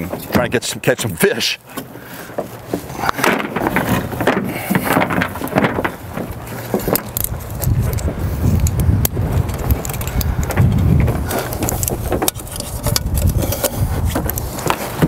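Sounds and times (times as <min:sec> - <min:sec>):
cargo net rustling: 0:01.4 - 0:15.0
carabiners clinking: 0:02.4 - 0:15.0.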